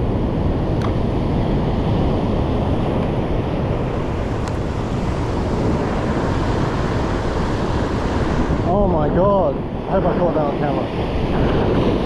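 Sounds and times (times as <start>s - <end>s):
ocean surf against rocks: 0.0s - 12.0s
wind buffeting microphone: 0.0s - 12.0s.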